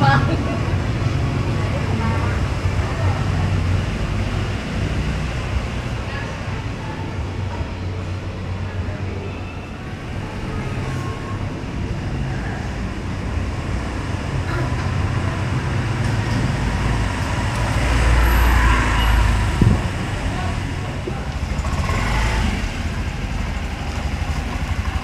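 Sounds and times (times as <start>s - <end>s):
rumble of vehicles: 0.0s - 25.0s.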